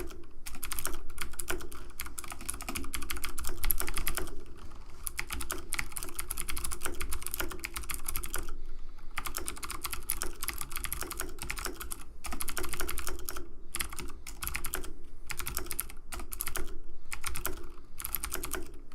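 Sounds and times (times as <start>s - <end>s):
typing on computer keyboard: 0.0s - 8.6s, 9.2s - 18.9s.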